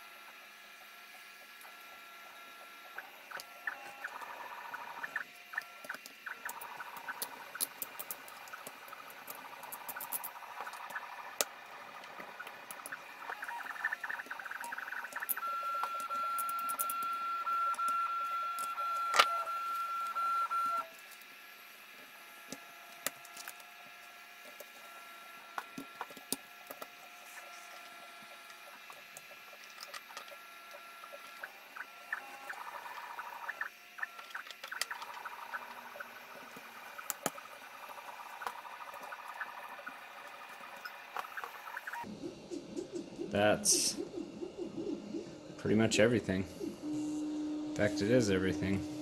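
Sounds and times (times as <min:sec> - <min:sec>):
stepper motors whining: 0:00.0 - 0:49.0.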